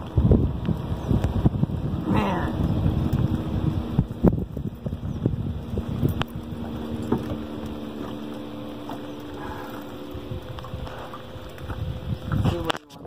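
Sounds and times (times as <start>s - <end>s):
faint steady hum: 0.0s - 13.0s
wind buffeting microphone: 0.0s - 13.0s.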